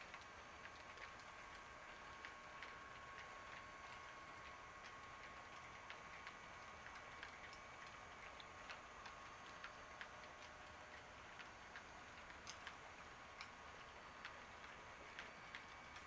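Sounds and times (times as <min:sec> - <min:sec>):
model train wheels clicking: 0:00.0 - 0:16.0.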